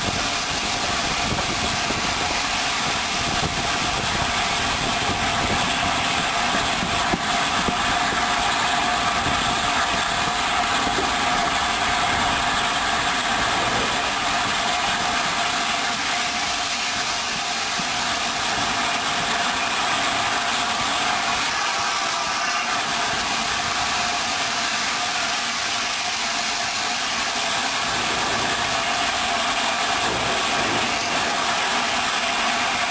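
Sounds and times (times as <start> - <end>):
train running: 0.0 - 32.9.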